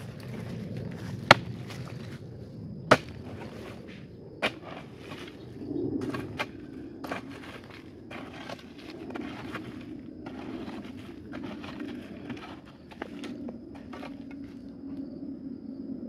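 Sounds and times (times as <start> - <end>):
tool striking hard earth: 0.0 - 2.2, 2.9 - 5.4, 6.0 - 14.4
soil scraping and crumbling: 0.0 - 2.3, 2.9 - 14.7.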